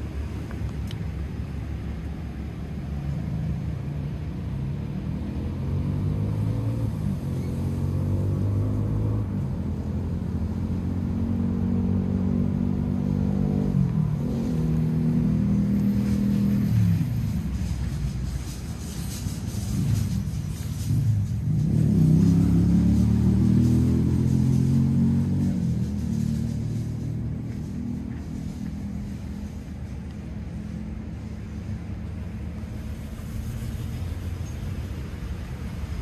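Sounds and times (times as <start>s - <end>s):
vehicle engine accelerating: 2.9s - 36.0s.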